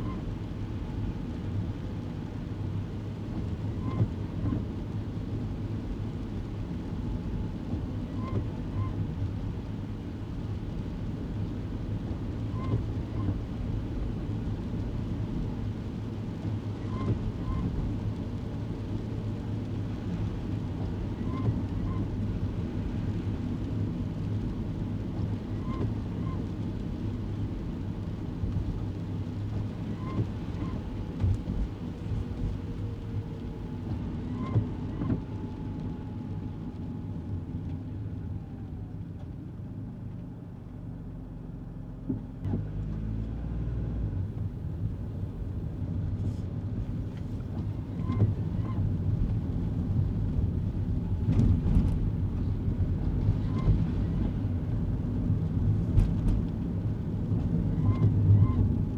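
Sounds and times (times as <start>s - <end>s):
car engine and tyre rumble: 0.0s - 58.9s.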